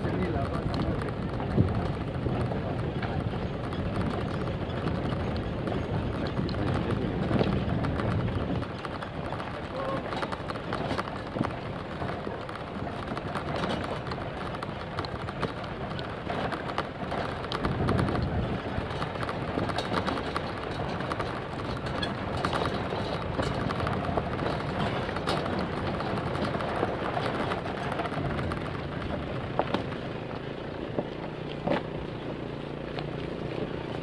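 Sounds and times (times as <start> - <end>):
approaching motorcycle engine: 0.0 - 34.0
rattles and knocks from bumps: 0.0 - 34.0
vehicle rumble on dirt track: 0.0 - 34.0.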